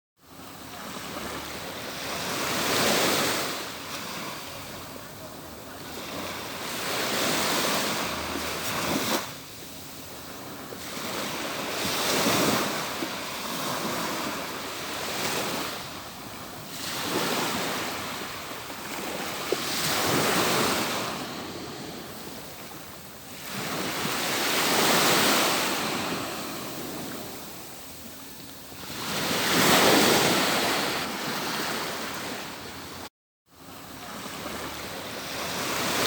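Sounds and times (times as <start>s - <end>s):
ocean waves breaking: 0.3s - 36.0s.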